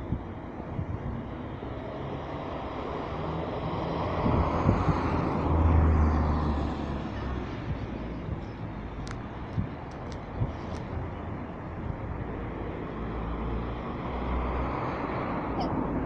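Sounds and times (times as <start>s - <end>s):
vehicle passing by: 0.7s - 9.7s, 10.3s - 16.0s.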